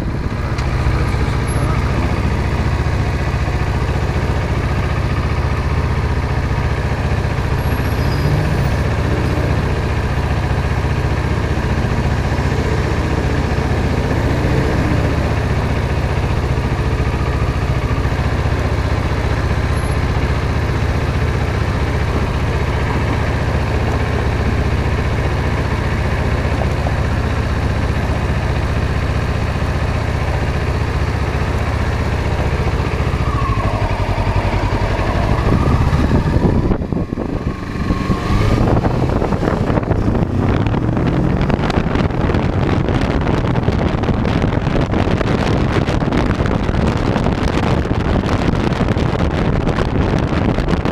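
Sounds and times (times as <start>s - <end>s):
motorcycle engine running: 0.0s - 50.9s
road and wind noise: 0.0s - 50.9s.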